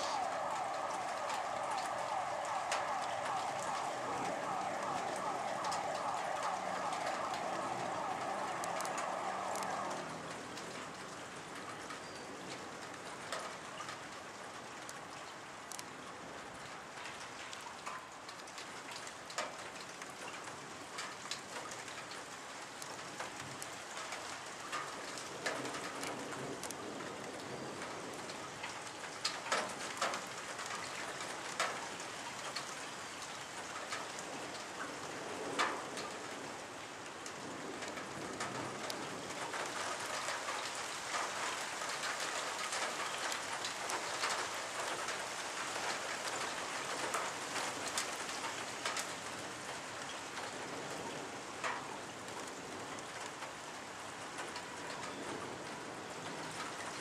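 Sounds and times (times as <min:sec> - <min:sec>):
raindrops ticking close by: 0:00.0 - 0:57.0
steady rain hiss: 0:00.0 - 0:57.0.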